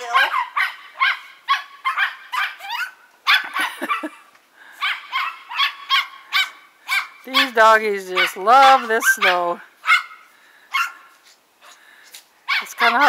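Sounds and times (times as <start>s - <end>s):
small dogs yapping: 0.0s - 4.2s, 4.8s - 7.6s, 8.2s - 11.8s, 12.4s - 13.0s.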